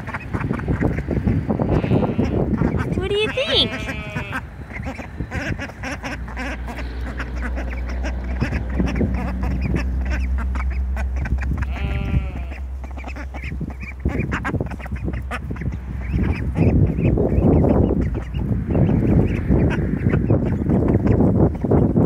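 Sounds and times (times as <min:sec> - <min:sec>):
ducklings peeping and quacking: 0:00.0 - 0:22.0.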